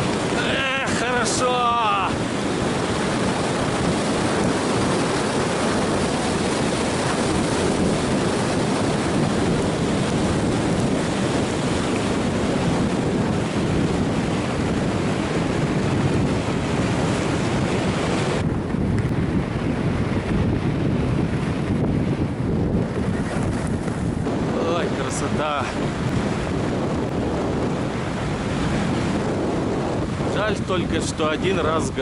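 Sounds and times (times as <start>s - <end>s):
wind roaring over microphone: 0.0s - 32.0s.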